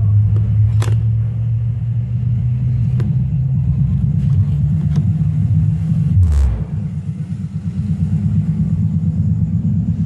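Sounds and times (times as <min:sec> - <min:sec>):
loud deep bass from subwoofer: 0:00.0 - 0:10.0.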